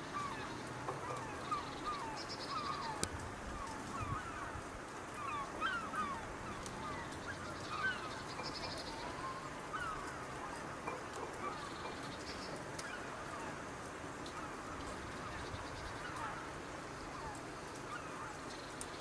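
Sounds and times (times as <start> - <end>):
waterbirds calling: 0.0 - 19.0.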